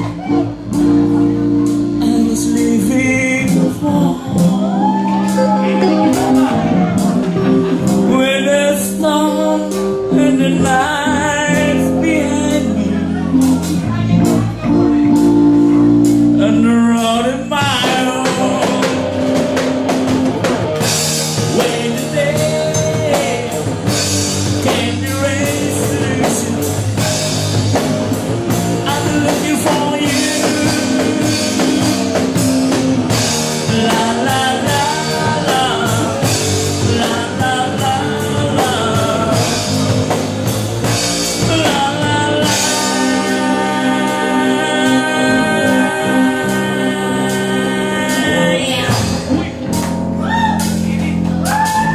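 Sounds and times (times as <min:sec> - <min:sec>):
drum kit and cymbals: 0:00.0 - 0:16.4, 0:17.0 - 0:51.9
electric guitars: 0:00.0 - 0:51.9
man singing: 0:01.2 - 0:20.2, 0:20.8 - 0:49.8.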